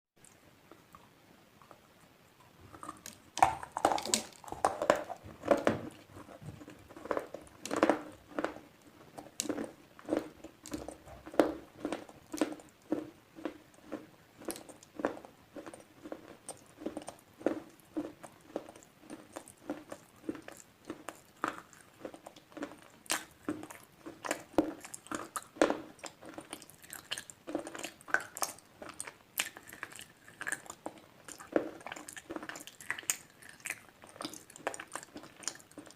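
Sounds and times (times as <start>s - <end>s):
crunchy chewing: 2.6s - 35.9s.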